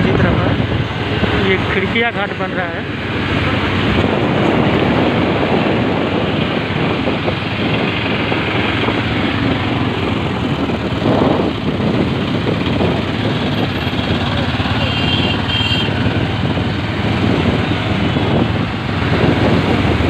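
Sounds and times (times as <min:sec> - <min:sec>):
vehicle rushing noise: 0:00.0 - 0:20.0
wind buffeting microphone: 0:00.0 - 0:20.0.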